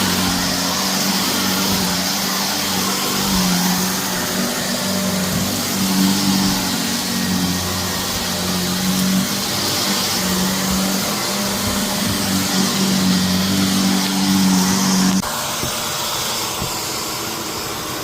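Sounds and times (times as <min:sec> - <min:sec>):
vacuum cleaner motor hum: 0:00.0 - 0:18.0.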